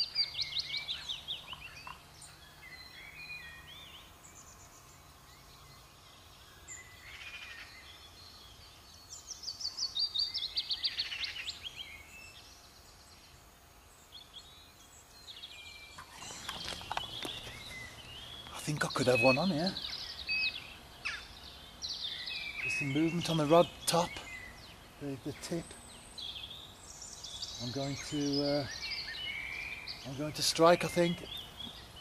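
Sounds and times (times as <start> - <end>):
quiet bird chirps: 0.0 - 32.0
songbird singing: 0.0 - 32.0.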